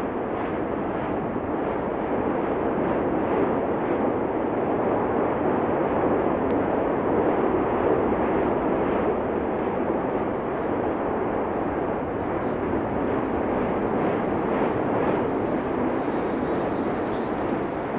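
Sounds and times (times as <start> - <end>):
volcano rumbling: 1.3 - 17.9.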